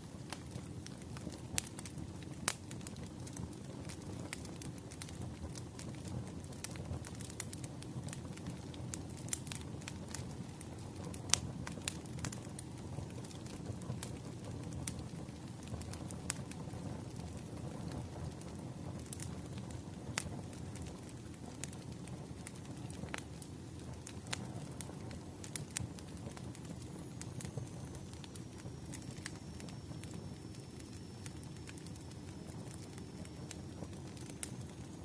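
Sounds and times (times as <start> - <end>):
firewood crackling and popping: 0.0 - 35.0
low rumble of flames: 0.0 - 35.0.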